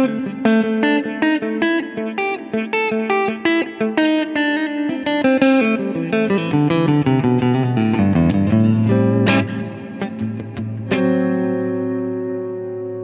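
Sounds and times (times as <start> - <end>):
electric guitar with reverb: 0.0 - 13.0.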